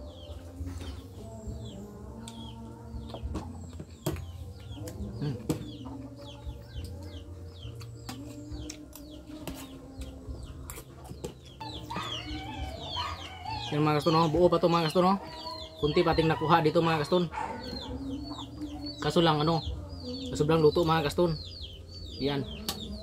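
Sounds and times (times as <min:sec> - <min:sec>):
chickens clucking: 0:00.0 - 0:23.0
small birds chirping: 0:00.0 - 0:23.0.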